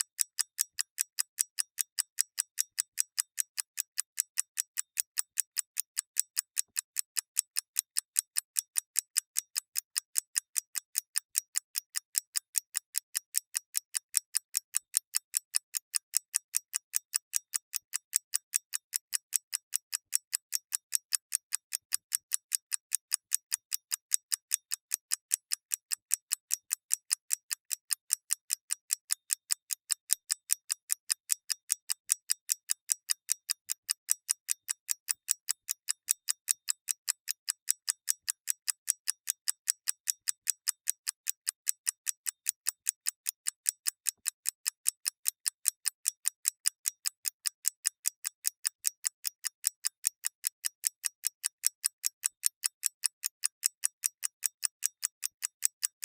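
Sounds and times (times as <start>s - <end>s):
mechanical clock ticking: 0.0s - 56.0s.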